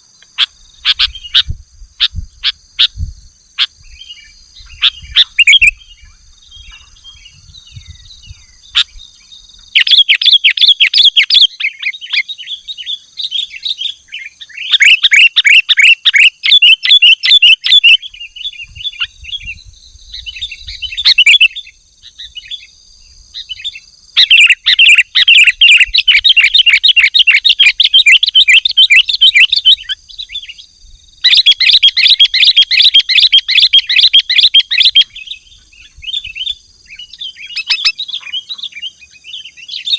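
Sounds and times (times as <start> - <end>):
bird singing rapid chirps: 0.0 - 3.0, 3.6 - 39.9.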